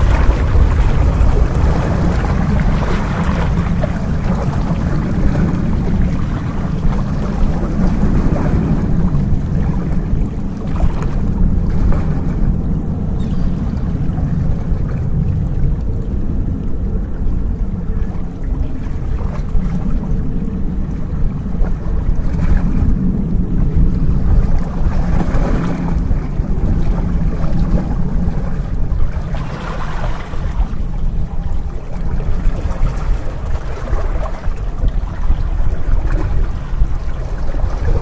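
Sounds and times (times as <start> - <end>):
waves splashing against rocks: 0.0 - 15.2, 21.4 - 38.0
steady low rumble: 0.0 - 38.0.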